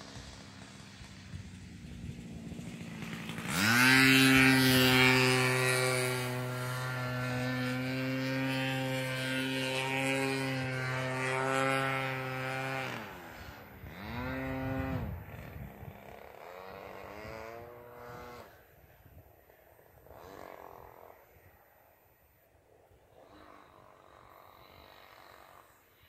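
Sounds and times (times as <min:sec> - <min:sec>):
model airplane engine buzzing: 0:00.0 - 0:26.0.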